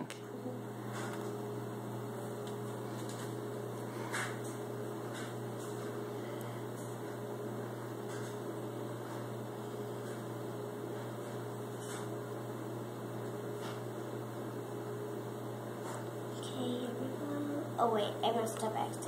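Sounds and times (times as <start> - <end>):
appliance hum: 0.0 - 19.0.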